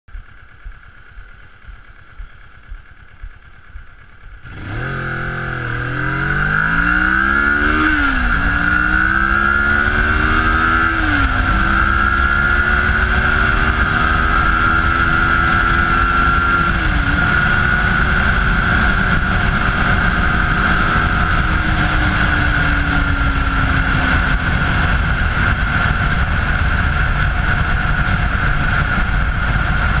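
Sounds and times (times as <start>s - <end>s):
motorcycle engine accelerating: 0.1s - 30.0s
wind and road noise: 0.1s - 30.0s.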